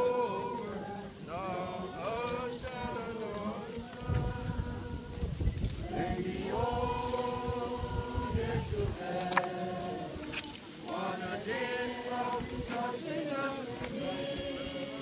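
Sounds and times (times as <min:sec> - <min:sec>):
people singing long notes: 0:00.0 - 0:15.0.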